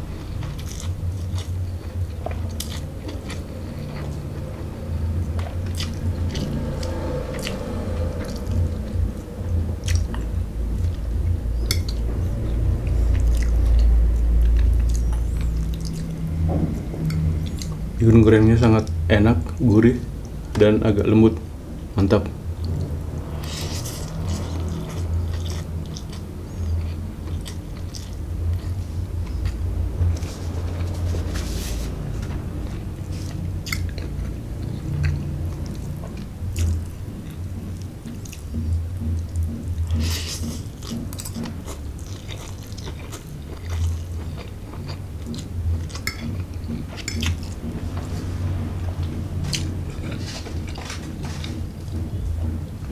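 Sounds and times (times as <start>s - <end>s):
wet chewing of noodles: 0.0s - 20.5s, 22.6s - 52.9s.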